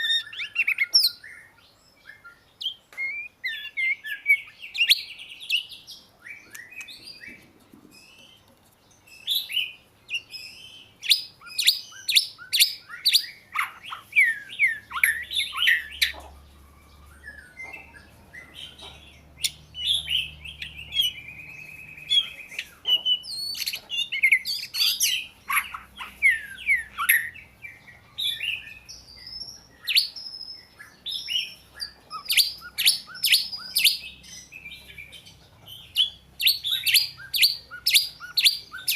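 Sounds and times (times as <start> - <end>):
bird singing whistles: 0.0 - 5.7, 9.2 - 18.8, 19.4 - 34.7, 36.0 - 38.9.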